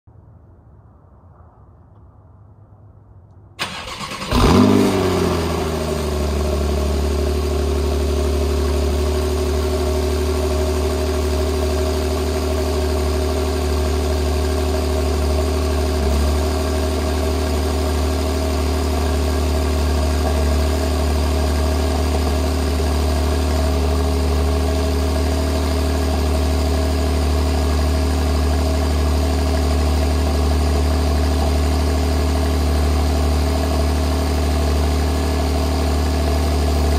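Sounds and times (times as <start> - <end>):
car engine revving and idling: 3.6 - 36.9.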